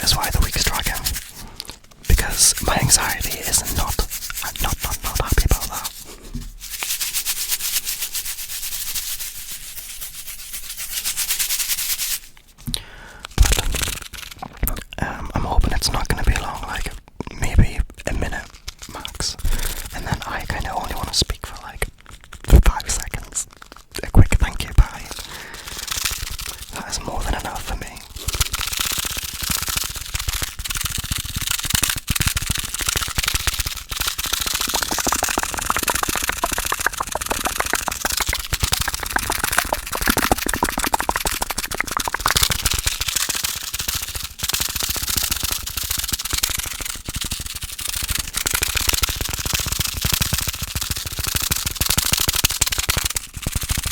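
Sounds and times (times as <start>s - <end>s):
scratching against microphone: 0.0s - 12.7s, 13.4s - 53.9s.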